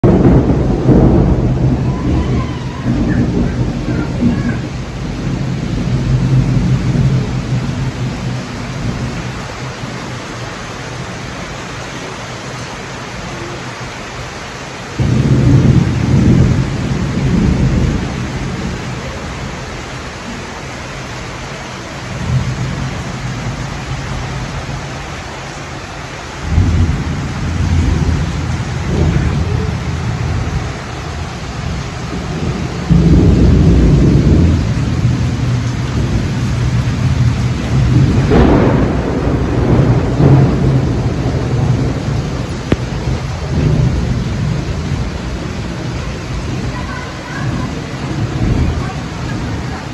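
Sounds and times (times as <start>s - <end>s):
heavy rain pouring: 0.0s - 49.9s
thunder rumbling: 0.0s - 49.9s.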